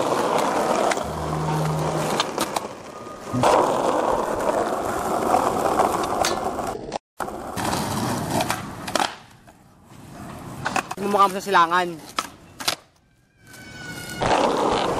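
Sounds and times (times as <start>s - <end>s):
skateboard wheels rolling on pavement: 0.0s - 14.9s.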